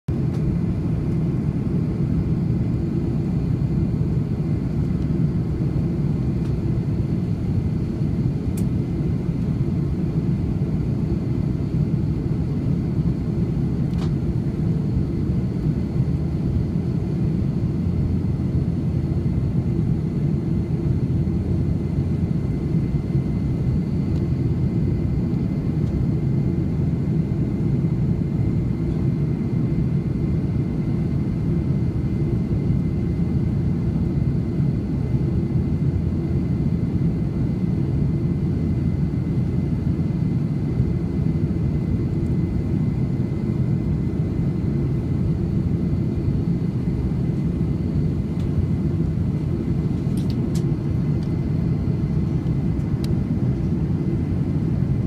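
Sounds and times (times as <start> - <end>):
airliner cabin roar: 0.1 - 55.0.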